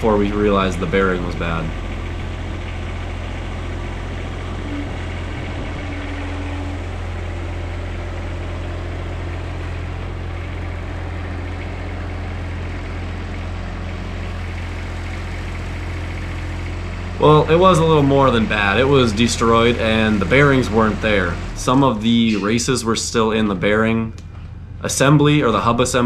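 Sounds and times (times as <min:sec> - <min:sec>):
diesel mower engine running: 0:00.0 - 0:26.0.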